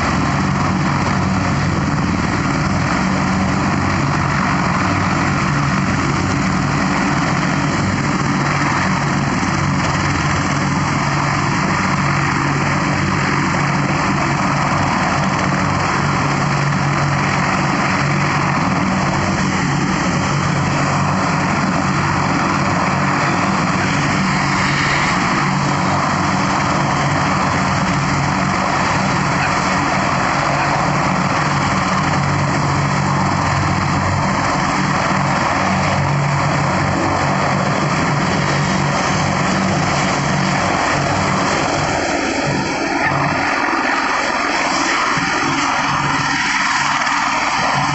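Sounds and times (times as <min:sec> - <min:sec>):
aircraft engine drone: 0:00.0 - 0:47.9.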